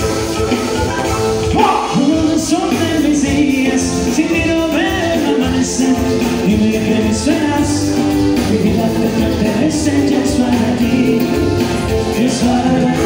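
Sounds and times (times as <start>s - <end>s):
band music with singing: 0.0s - 13.0s.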